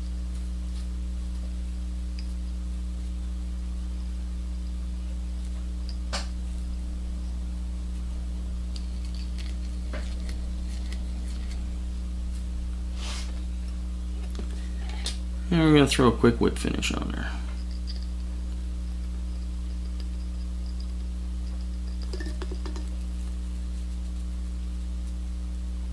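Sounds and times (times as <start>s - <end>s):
electrical mains hum: 0.0s - 25.9s.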